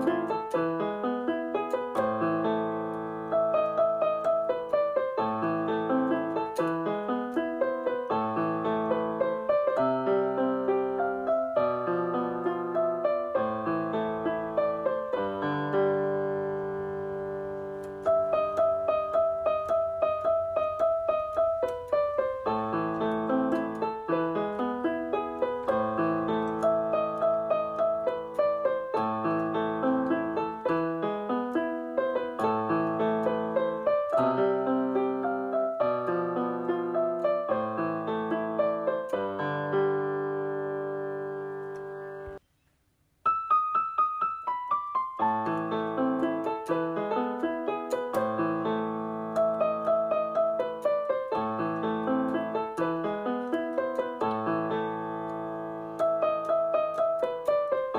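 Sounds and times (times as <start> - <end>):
gentle piano music: 0.0 - 42.4, 43.2 - 57.9.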